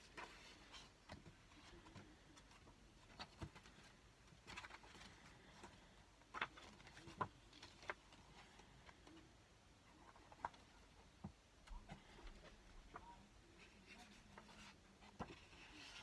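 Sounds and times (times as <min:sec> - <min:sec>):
book pages rustling: 0:00.0 - 0:09.2, 0:09.9 - 0:16.0.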